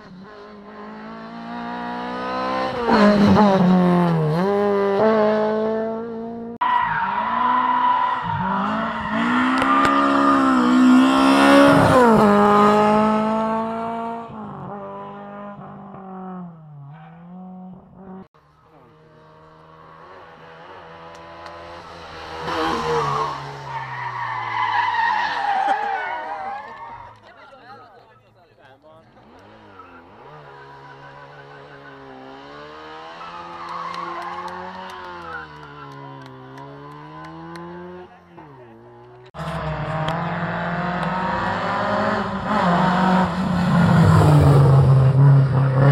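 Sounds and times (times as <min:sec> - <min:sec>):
rally car engines revving: 0:00.0 - 0:27.3, 0:29.0 - 0:45.9.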